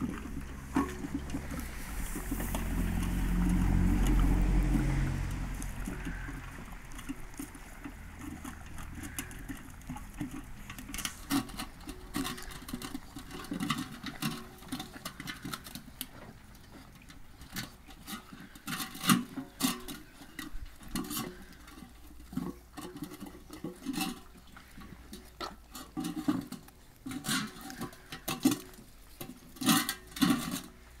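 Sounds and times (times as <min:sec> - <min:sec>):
puppies lapping and chewing: 0:00.0 - 0:31.0.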